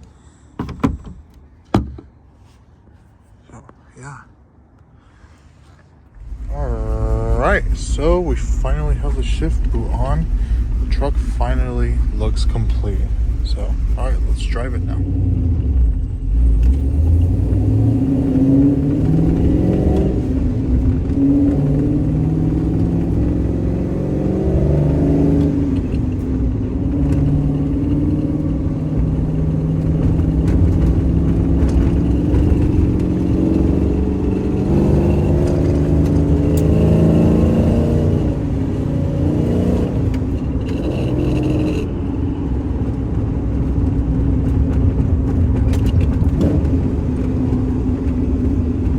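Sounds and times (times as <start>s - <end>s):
truck engine accelerating: 6.1s - 48.9s.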